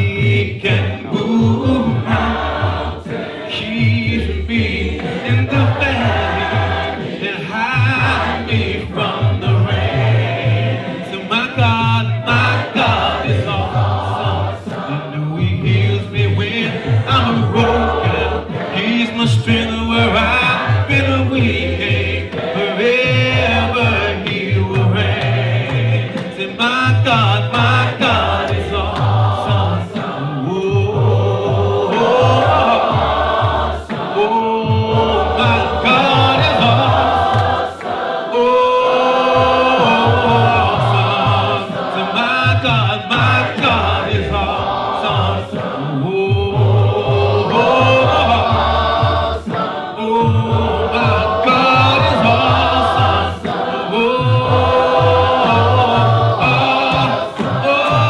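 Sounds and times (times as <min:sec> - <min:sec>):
pulsing bass accompaniment: 0:00.0 - 0:37.8, 0:39.2 - 0:58.0
choir singing: 0:00.0 - 0:58.0.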